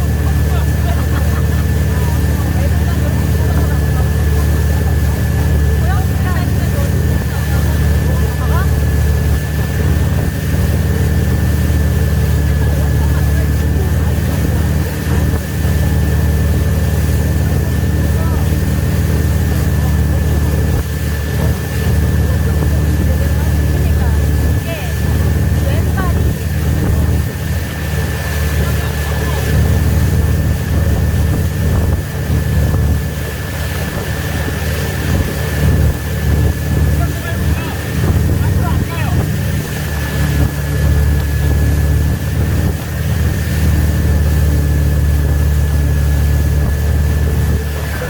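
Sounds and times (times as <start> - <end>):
boat engine droning: 0.0 - 48.0
wind on microphone: 0.0 - 48.0.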